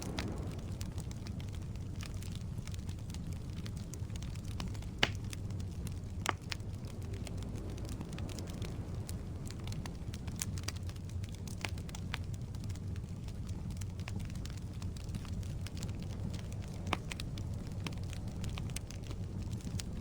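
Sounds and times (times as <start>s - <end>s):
loud fire pops: 0.0s - 20.0s
wood fire crackling: 0.0s - 20.0s.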